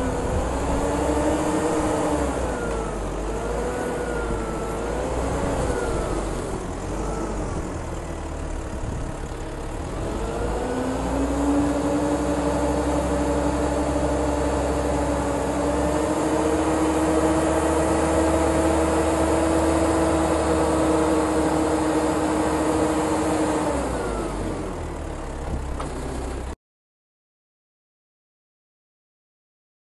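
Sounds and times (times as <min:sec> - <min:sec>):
forklift engine revving: 0:00.0 - 0:26.6
forklift engine running: 0:00.0 - 0:26.6.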